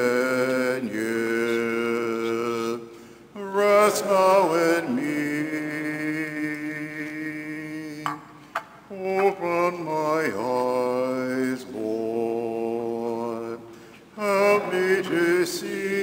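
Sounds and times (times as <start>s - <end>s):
hymn music with held notes: 0.0s - 16.0s.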